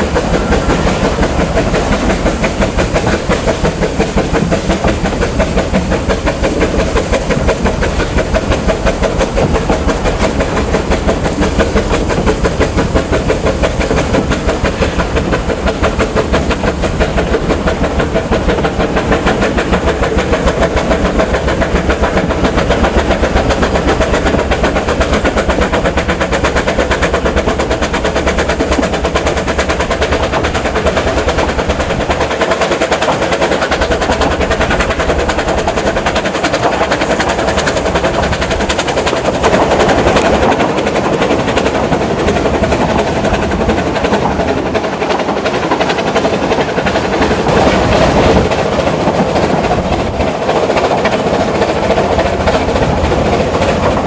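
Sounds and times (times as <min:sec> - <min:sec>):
steam locomotive chugging: 0:00.0 - 0:54.0.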